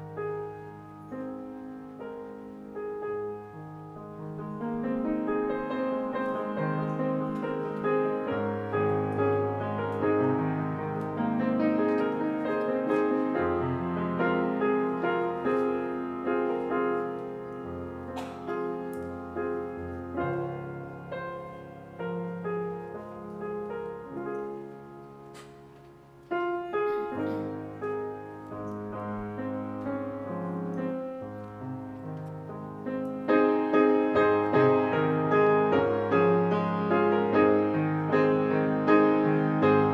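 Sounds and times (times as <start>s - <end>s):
slow solo piano: 0.0s - 39.9s.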